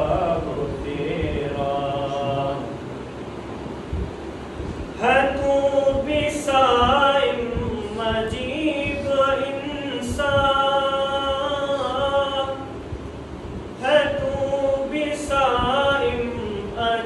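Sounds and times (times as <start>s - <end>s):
person singing unaccompanied: 0.0s - 2.9s, 5.0s - 12.9s, 13.8s - 17.0s.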